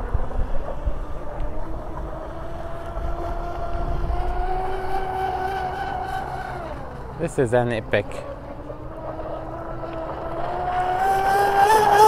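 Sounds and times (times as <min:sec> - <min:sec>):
electric motor whine of model boat: 0:00.0 - 0:12.0.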